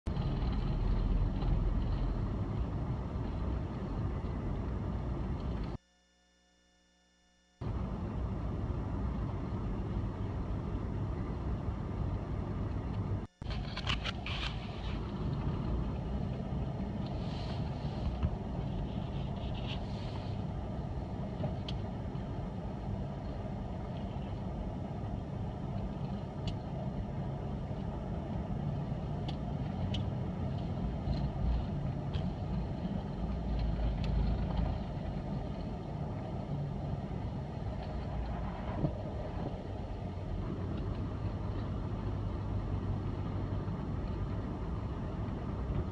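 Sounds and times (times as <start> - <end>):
car engine rumble: 0.0 - 5.8, 7.6 - 45.9
tyres rolling on snowy road: 0.1 - 5.8, 7.6 - 45.9.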